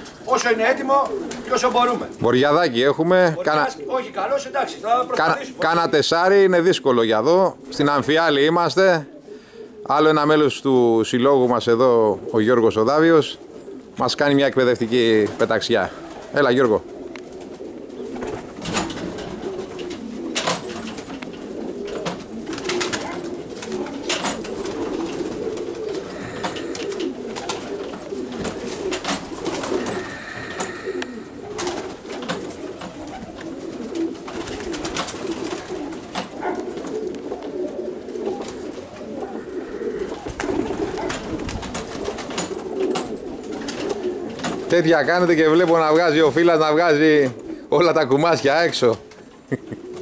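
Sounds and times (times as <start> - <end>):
pigeons cooing: 0.0 - 50.0.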